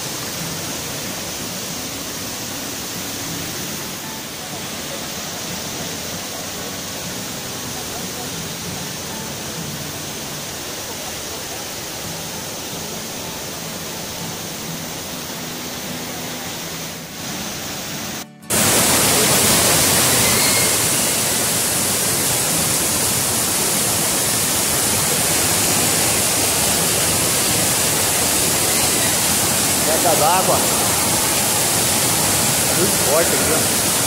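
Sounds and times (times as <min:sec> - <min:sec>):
waterfall rushing over rocks: 0:00.0 - 0:34.0.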